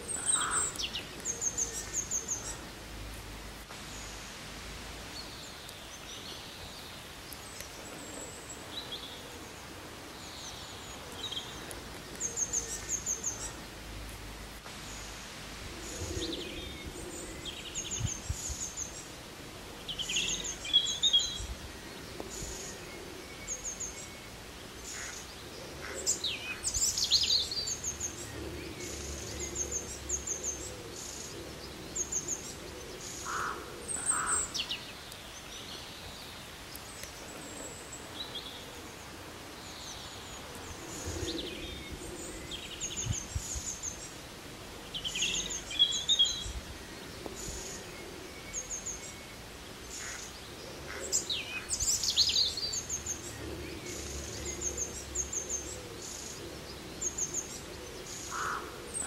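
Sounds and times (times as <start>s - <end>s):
birds chirping and trilling: 0.0s - 4.4s, 5.0s - 59.0s
steady background hiss: 0.0s - 59.0s.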